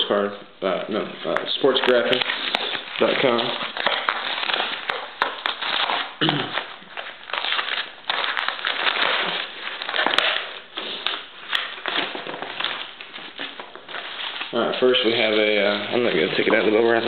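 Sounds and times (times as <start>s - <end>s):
paper rustling and crinkling: 1.0s - 17.0s.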